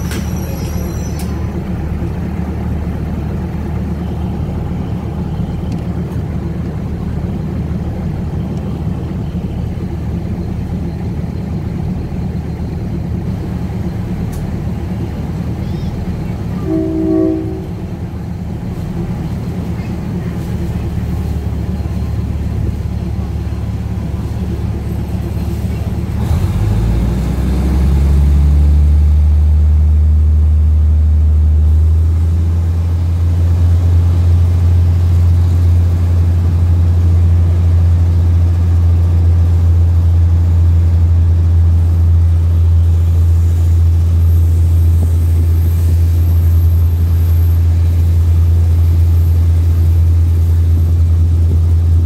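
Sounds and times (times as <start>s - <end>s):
train diesel engine drone: 0.0s - 52.0s.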